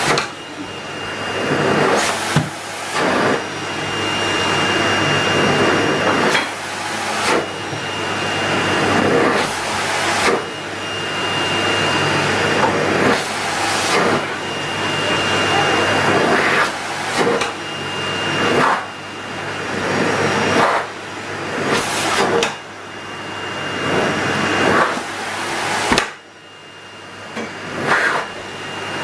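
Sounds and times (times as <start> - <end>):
vacuum cleaner running: 0.0 - 29.0.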